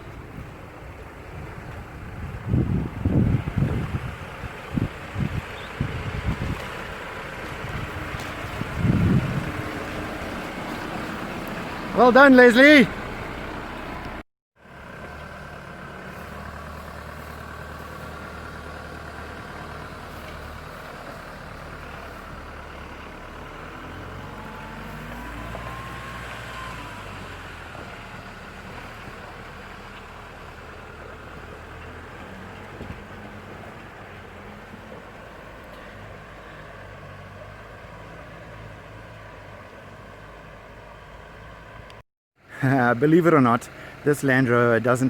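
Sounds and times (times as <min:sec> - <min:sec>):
vehicle engine running at low revs: 0:00.0 - 0:42.8.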